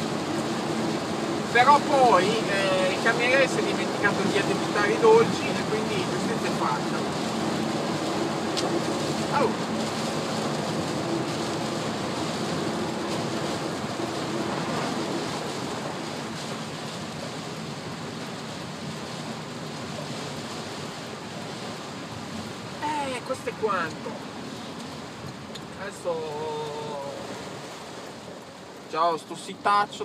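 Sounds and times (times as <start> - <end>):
heavy rain: 0.0 - 30.0
tyres on wet road: 0.0 - 30.0.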